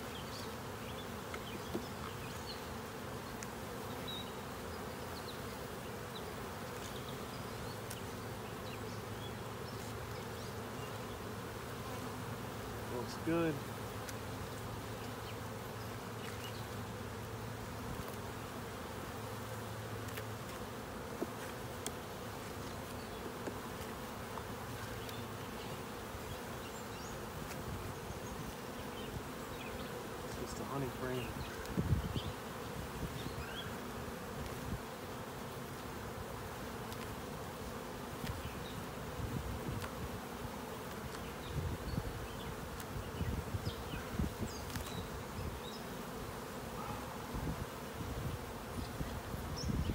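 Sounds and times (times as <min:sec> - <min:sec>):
bees buzzing: 0:00.0 - 0:49.9.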